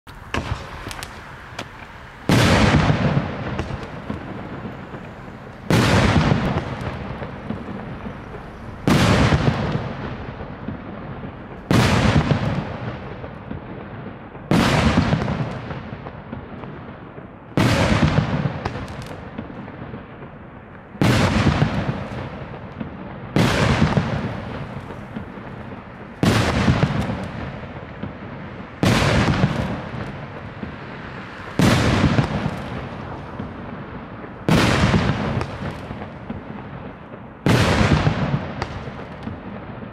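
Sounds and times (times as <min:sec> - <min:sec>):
small firework pops: 0:00.1 - 0:11.0, 0:11.7 - 0:39.9.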